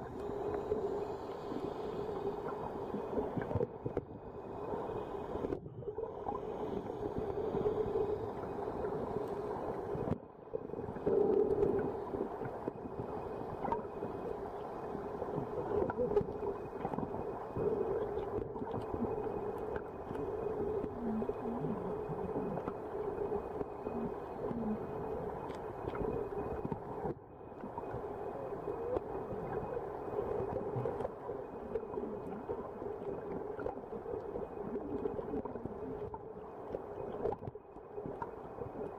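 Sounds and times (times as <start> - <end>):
muffled underwater drone: 0.0 - 38.9.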